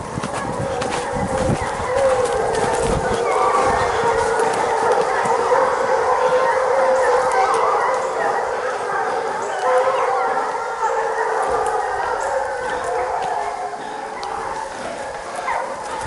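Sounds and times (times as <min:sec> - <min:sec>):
hounds baying and howling: 0:00.0 - 0:16.0.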